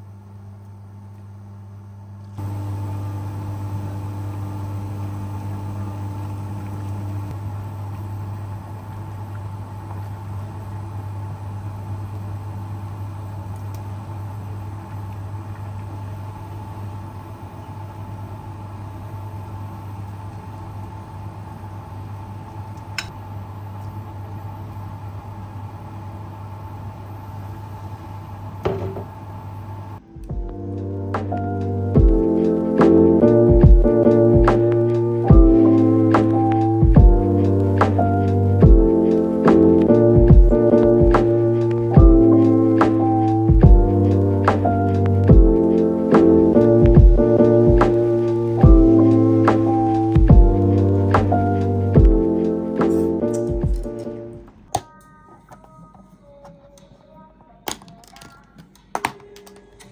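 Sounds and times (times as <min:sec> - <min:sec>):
faint high whine: 0:00.0 - 0:54.5
low machine hum: 0:00.0 - 0:57.6.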